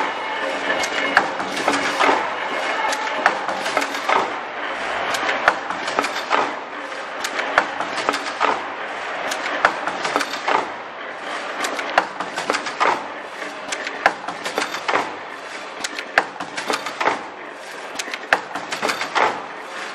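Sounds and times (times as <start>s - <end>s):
machine clattering with sharp clacks: 0.0s - 19.9s.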